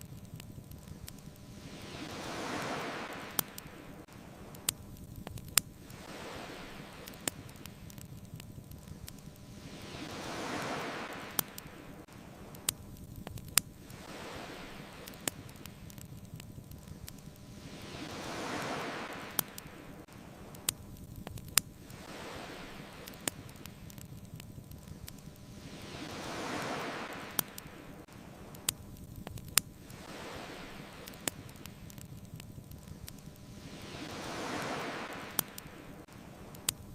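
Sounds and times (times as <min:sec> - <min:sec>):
bonfire crackling pops: 0:00.0 - 0:36.9
ocean waves washing onto beach: 0:00.0 - 0:36.9.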